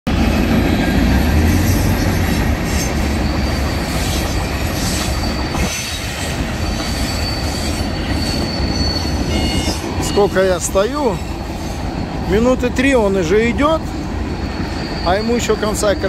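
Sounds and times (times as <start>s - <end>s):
freight train rolling past: 0.1s - 16.0s
high wheel squeal: 0.7s - 16.0s.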